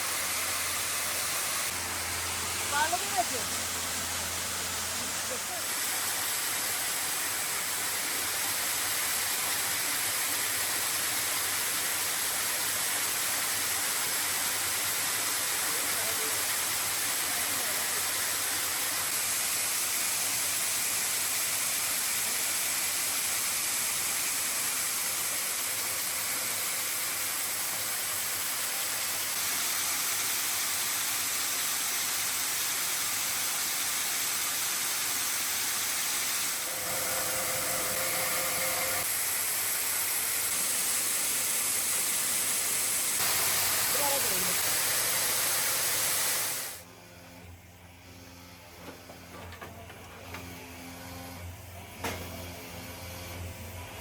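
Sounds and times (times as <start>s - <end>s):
steady hissing noise: 0.0s - 46.9s.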